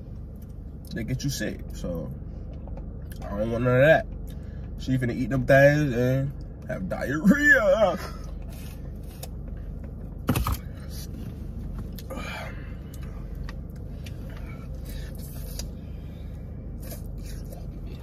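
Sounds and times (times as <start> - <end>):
low hum inside car: 0.0 - 18.0.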